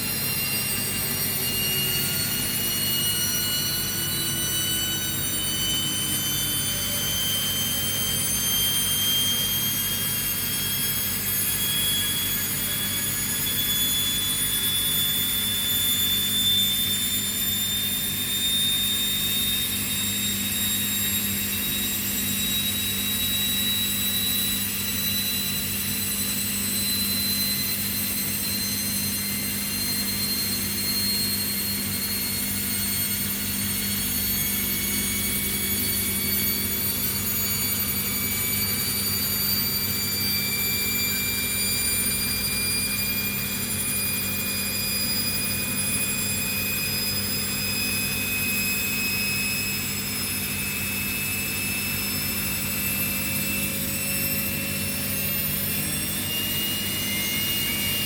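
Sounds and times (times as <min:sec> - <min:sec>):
washing machine motors whining: 0:00.0 - 0:58.0.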